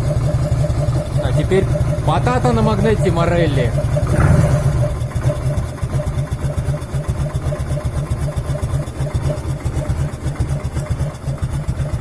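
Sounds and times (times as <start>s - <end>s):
motorcycle engine idling roughly: 0.0s - 12.0s.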